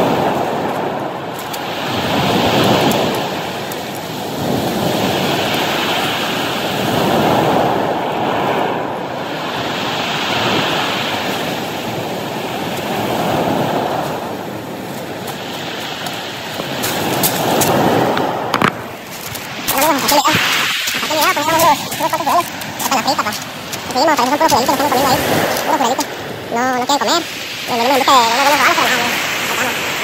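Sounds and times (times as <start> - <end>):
surf washing over cobbles: 0.0 - 30.0.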